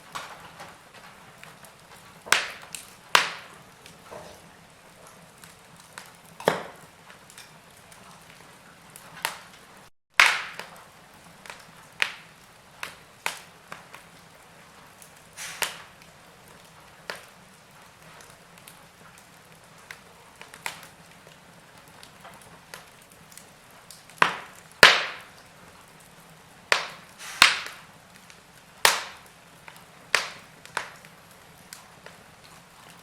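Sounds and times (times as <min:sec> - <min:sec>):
wood logs crackling in fireplace: 0:00.0 - 0:33.0.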